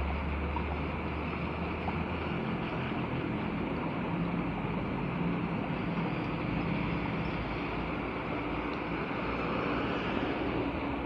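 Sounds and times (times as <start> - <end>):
water rushing into storm drain: 0.0 - 11.0.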